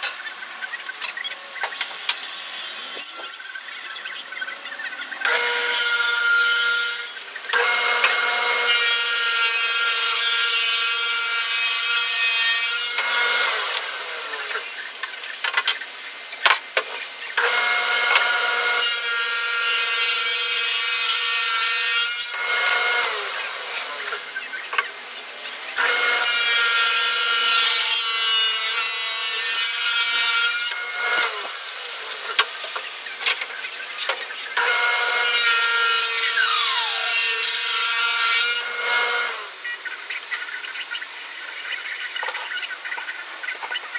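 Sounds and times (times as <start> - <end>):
saw blade cutting wood: 0.0 - 43.9
table saw whining: 0.0 - 43.9.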